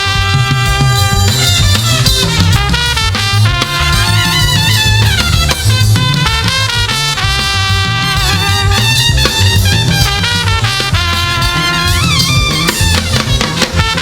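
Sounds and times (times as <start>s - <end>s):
live gospel band music: 0.0s - 14.0s.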